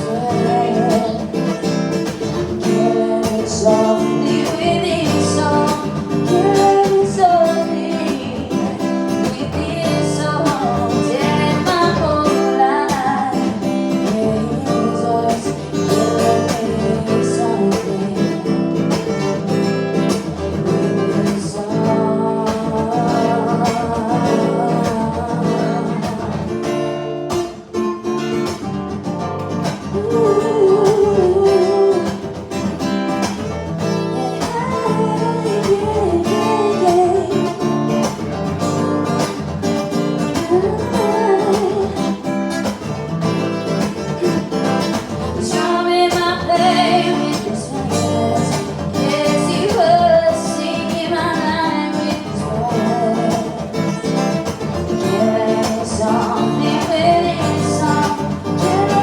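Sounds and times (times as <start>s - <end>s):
person singing: 0.0s - 26.7s, 29.8s - 32.7s, 34.0s - 38.2s, 40.1s - 42.8s, 44.4s - 59.0s
strummed guitar: 0.0s - 59.0s.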